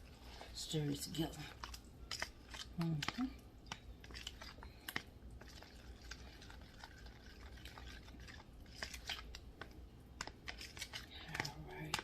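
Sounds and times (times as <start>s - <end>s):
spoon stirring thick sauce: 0.0s - 12.0s.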